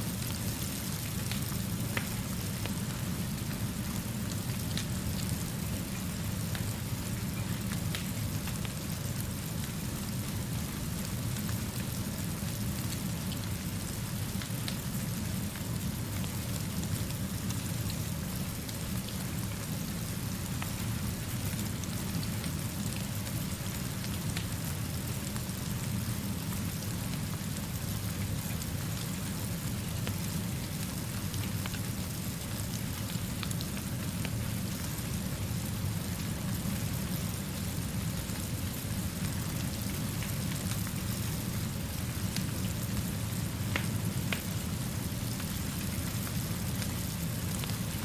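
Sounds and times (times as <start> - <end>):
steady rainfall: 0.0 - 48.0.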